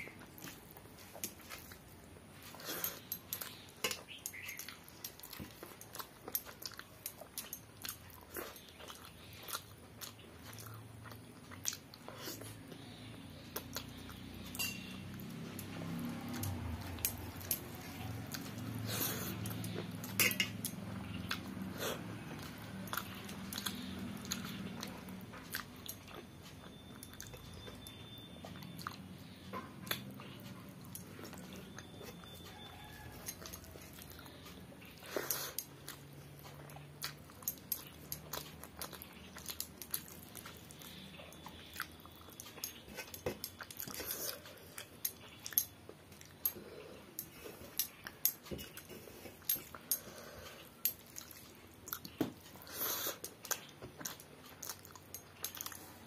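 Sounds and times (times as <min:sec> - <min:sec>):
person chewing: 0:00.0 - 0:56.0.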